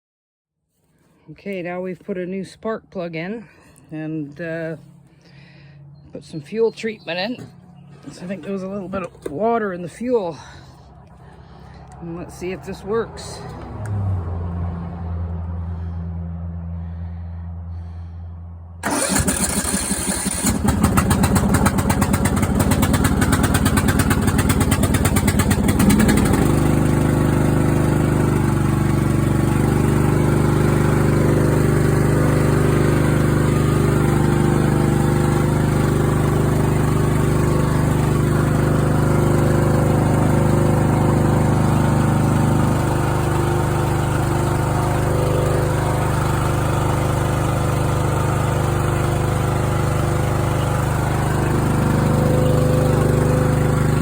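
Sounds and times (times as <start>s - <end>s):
mower engine starting and running: 4.6s - 13.7s, 18.8s - 54.0s.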